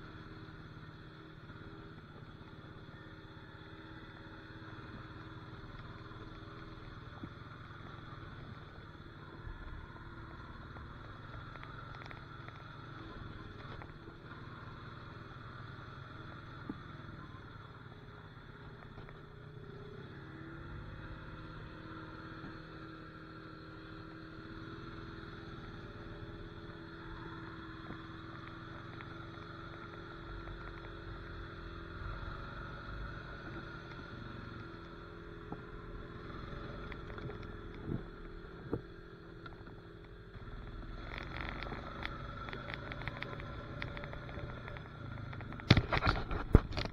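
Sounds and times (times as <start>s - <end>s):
atv engine running: 0.0s - 46.9s
tyre and chassis noise: 0.0s - 46.9s.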